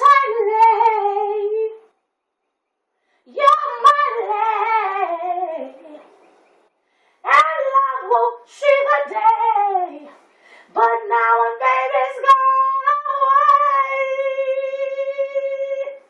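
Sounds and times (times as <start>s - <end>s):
woman singing unaccompanied: 0.0s - 1.9s, 3.3s - 6.1s, 7.2s - 16.0s.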